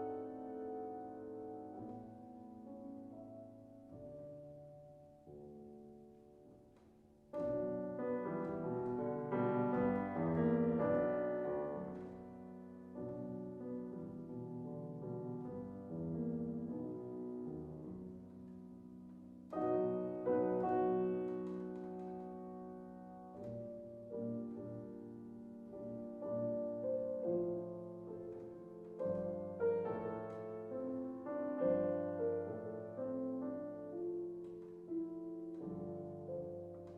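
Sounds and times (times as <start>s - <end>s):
classical piano music: 0.0s - 36.9s.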